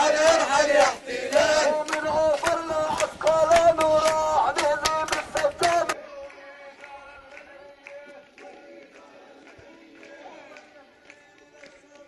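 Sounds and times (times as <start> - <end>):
voices chanting: 0.0 - 12.0.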